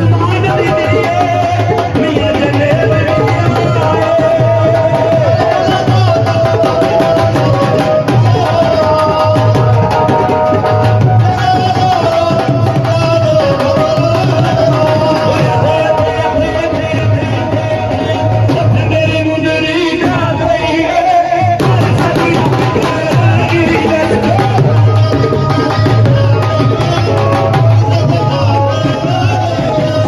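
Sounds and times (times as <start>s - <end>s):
held melody line: 0.0s - 30.0s
music with drum beat: 0.0s - 30.0s.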